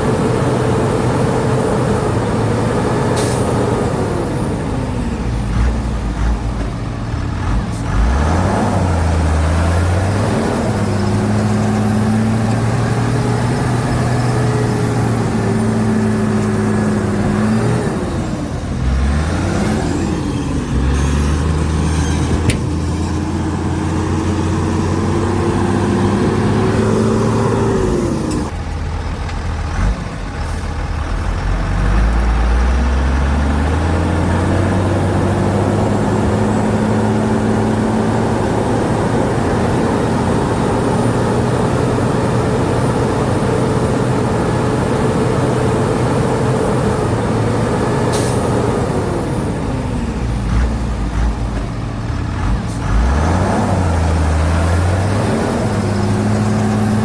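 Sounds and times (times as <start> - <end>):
bulldozer diesel engine working: 0.0 - 57.0.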